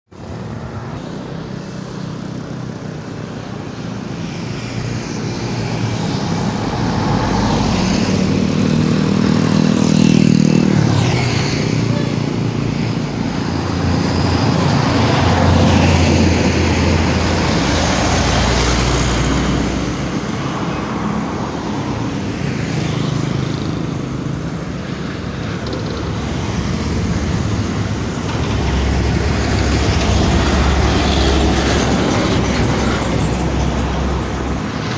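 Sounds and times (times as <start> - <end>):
large vehicles passing: 0.2 - 34.9.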